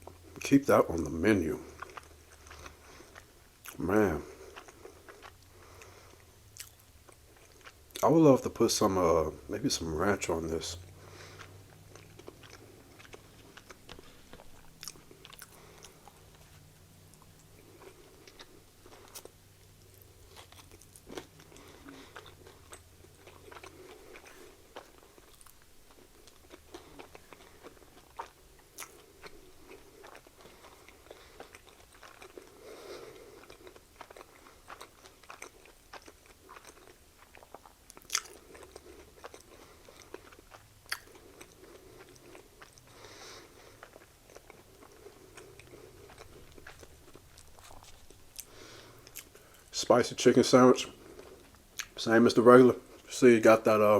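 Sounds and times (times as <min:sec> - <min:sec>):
chewing sandwich: 0:00.0 - 0:53.2.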